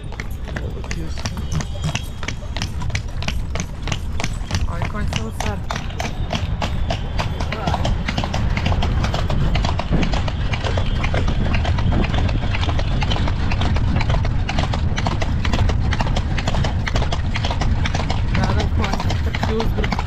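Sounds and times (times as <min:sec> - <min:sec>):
horse hooves clip-clopping: 0:00.0 - 0:20.0
steady low rumble: 0:00.0 - 0:20.0.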